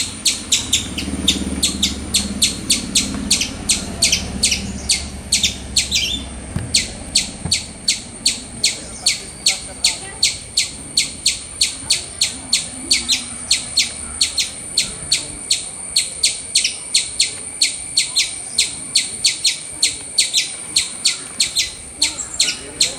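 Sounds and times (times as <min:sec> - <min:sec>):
squirrel chirping: 0:00.0 - 0:22.9.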